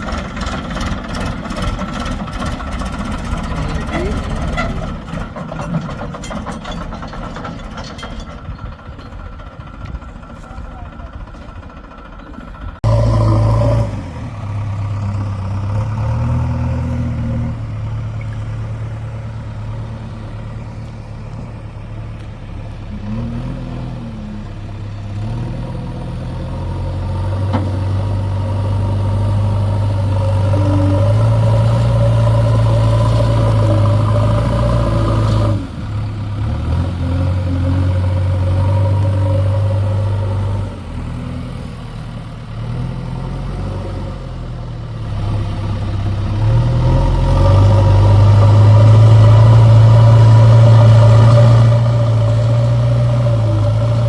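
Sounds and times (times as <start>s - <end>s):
backhoe diesel engine running: 0.0s - 54.0s.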